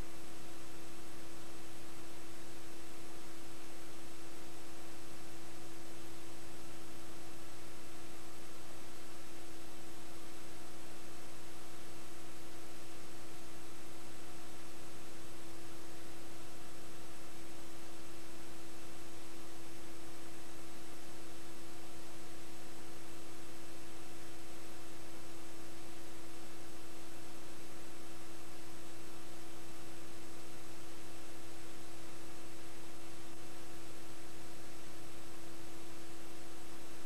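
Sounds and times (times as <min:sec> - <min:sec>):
electrical hum with hiss: 0:00.0 - 0:37.0.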